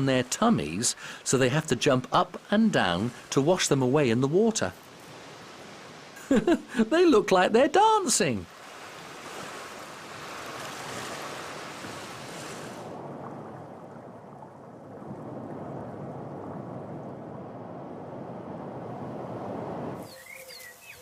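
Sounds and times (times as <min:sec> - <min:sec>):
sea waves washing onto shore: 0:00.0 - 0:21.0.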